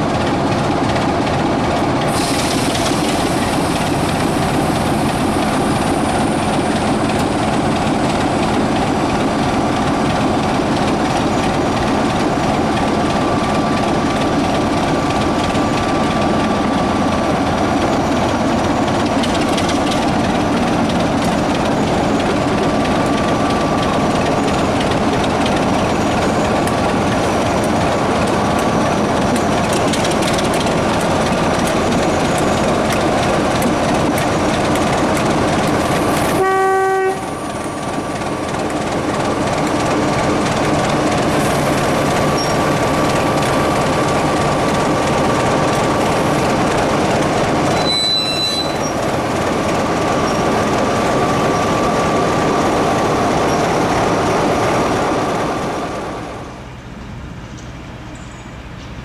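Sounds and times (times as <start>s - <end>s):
wheels clickety-clack: 0.0s - 56.4s
train wheels rumbling on rails: 0.0s - 59.0s.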